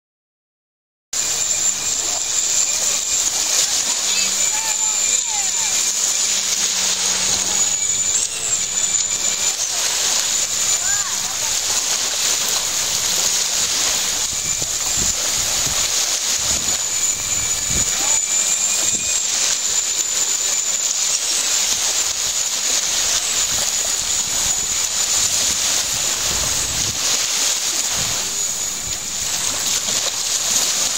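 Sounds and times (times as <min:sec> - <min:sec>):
small waves washing: 0:01.2 - 0:30.9
toy boat motor whining: 0:01.2 - 0:30.9
wind on microphone: 0:01.2 - 0:30.9.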